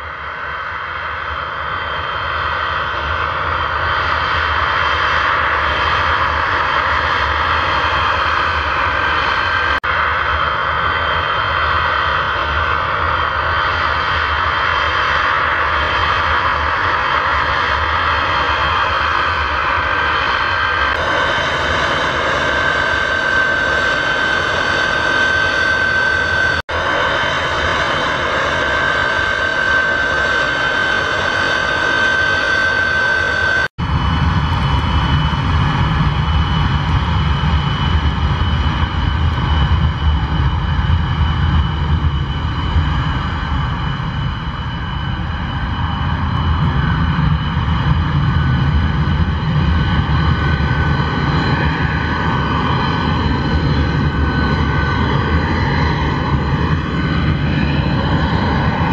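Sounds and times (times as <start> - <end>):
jet engines whining: 0.0 - 58.9.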